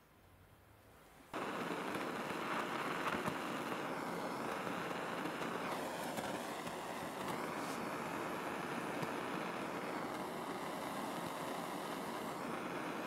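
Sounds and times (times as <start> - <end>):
gas torch hissing: 1.3 - 13.0.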